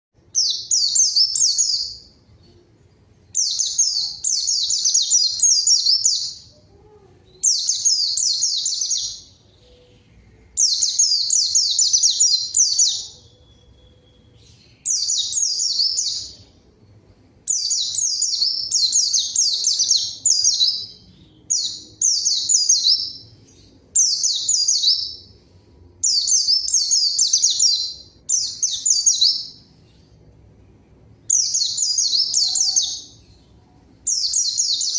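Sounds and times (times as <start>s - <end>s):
bird twittering song: 0.2s - 25.4s, 26.0s - 30.2s, 31.2s - 34.9s.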